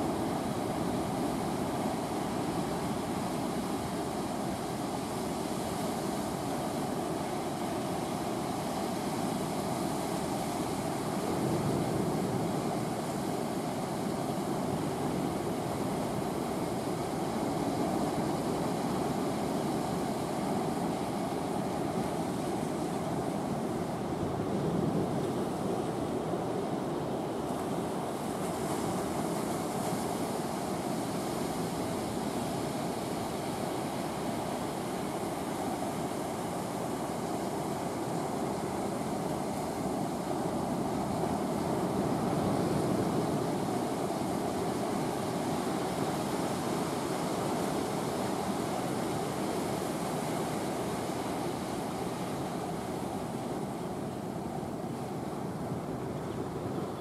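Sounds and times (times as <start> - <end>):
sea surf rushing: 0.0 - 57.0
wind: 0.0 - 57.0.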